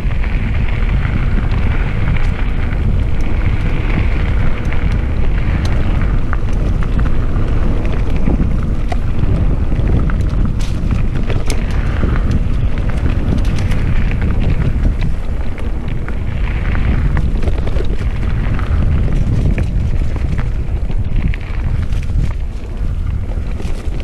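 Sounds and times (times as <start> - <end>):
bike clicks and rattles: 0.0 - 24.0
bike tyres rumbling on dirt: 0.0 - 24.0
wind buffeting microphone: 0.0 - 24.0.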